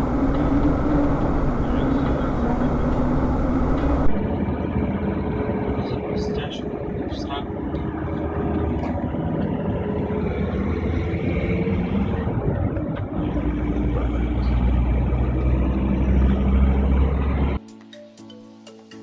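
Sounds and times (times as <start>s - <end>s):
vehicle engine: 0.0s - 17.6s
road noise: 0.0s - 17.9s.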